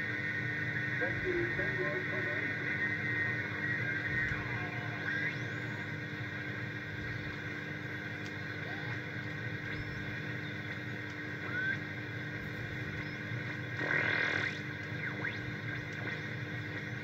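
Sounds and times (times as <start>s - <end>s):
radio static and hiss: 0.0s - 17.0s.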